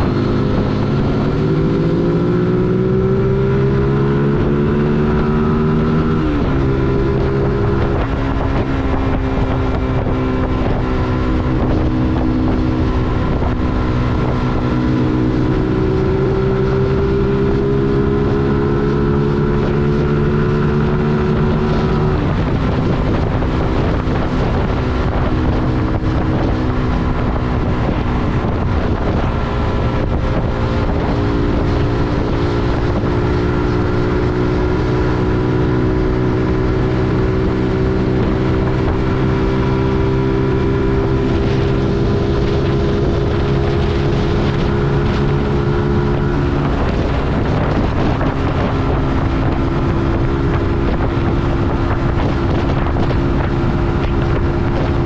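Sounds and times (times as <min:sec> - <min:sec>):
motorcycle engine at speed: 0:00.0 - 0:55.0
wind buffeting microphone: 0:00.0 - 0:55.0.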